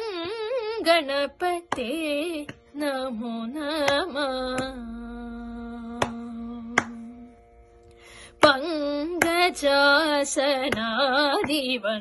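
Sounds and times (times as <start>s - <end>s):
woman singing devotional song: 0.0s - 7.6s, 8.2s - 12.0s.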